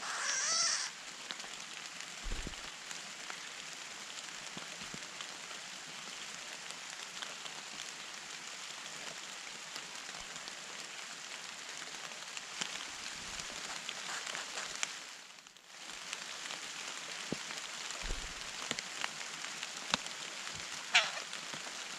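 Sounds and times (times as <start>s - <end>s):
steady outdoor hiss: 0.0s - 21.9s.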